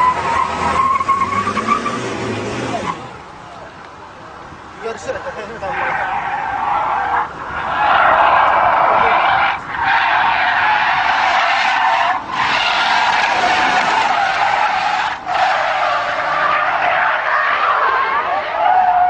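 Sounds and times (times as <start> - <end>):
car tyres screeching: 0.0 - 3.8, 4.6 - 19.0.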